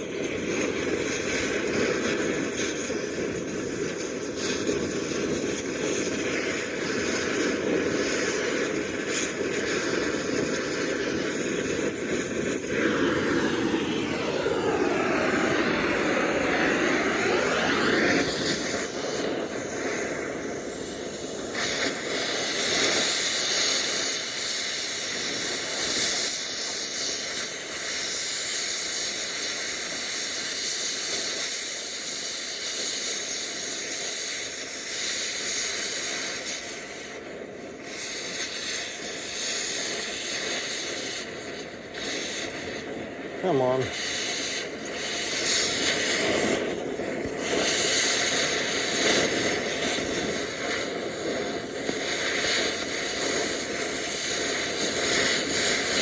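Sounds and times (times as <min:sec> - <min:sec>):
cutting torch hissing: 0:00.0 - 0:56.0.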